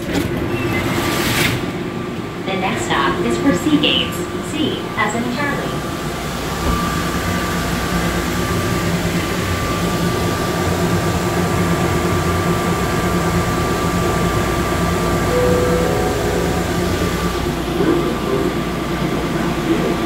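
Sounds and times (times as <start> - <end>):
train rumbling through tunnel: 0.0 - 20.0
low train tone: 1.8 - 20.0.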